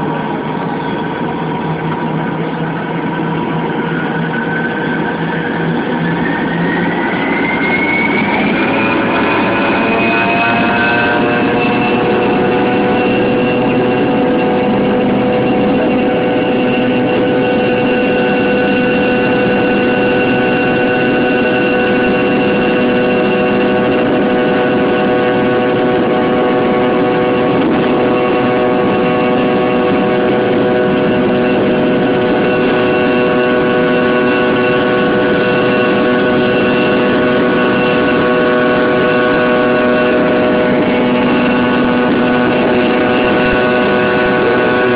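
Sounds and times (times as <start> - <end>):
engine whining tones: 0.0 - 44.9
jet engines at takeoff thrust: 0.0 - 44.9.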